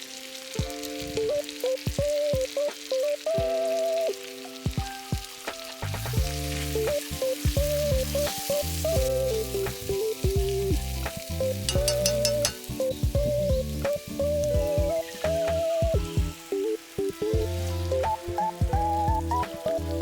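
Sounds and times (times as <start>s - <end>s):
food sizzling in a pan: 0.0s - 20.0s
instrumental background music: 0.0s - 20.0s.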